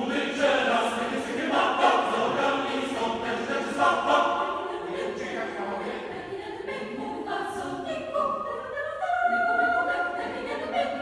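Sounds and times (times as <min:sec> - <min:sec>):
mixed choir singing: 0:00.0 - 0:11.0.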